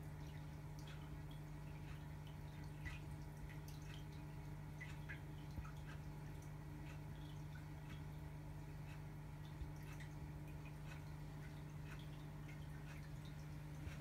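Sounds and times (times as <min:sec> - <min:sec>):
aquarium filter hum: 0:00.0 - 0:14.0
water dripping and trickling: 0:00.0 - 0:14.0.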